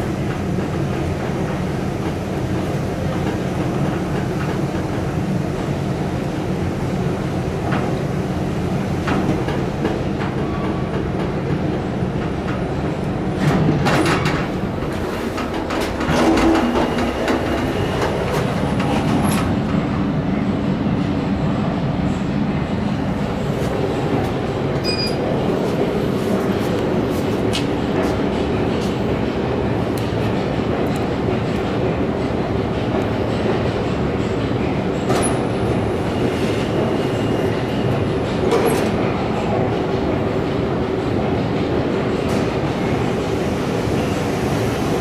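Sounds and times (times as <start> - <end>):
elevator car rumbling: 0.0 - 45.0.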